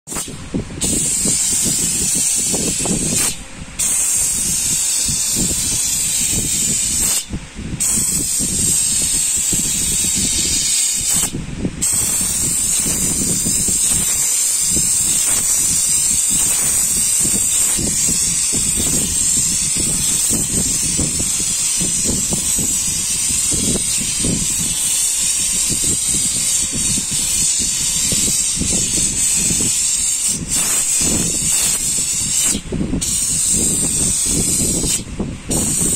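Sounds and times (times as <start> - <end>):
steam cleaner hissing: 0.1 - 35.9.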